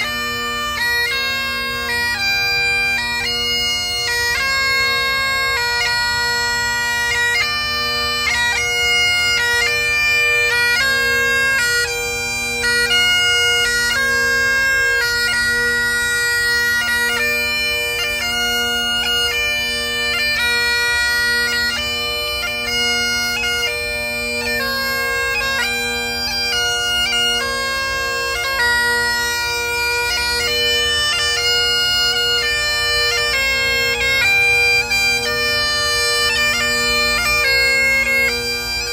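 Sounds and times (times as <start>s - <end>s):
bagpipe playing slow melody: 0.0s - 38.9s.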